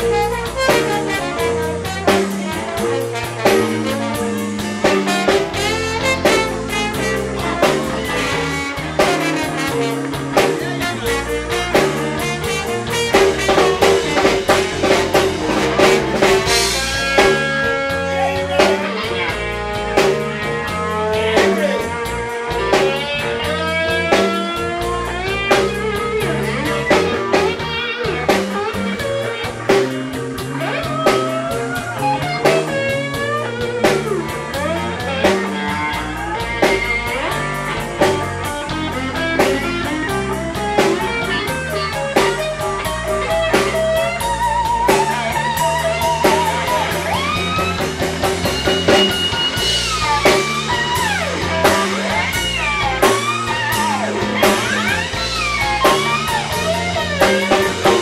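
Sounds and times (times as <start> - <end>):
blues guitar with bent notes: 0.0 - 58.0
drum kit beat: 0.0 - 58.0
walking bass line: 0.0 - 58.0.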